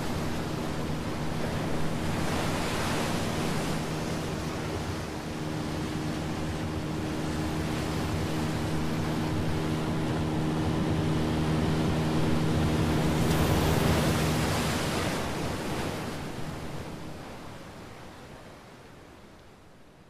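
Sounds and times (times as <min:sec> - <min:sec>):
water rushing: 0:00.0 - 0:17.4
motorboat engine droning: 0:00.0 - 0:17.8
wind: 0:00.0 - 0:20.0.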